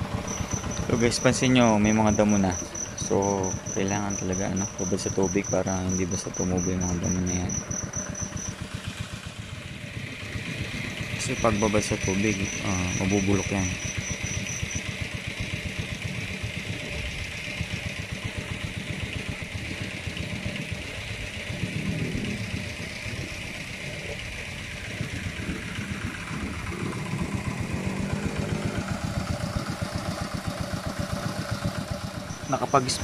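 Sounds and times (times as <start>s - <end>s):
diesel water pump engine running: 0.0s - 33.0s.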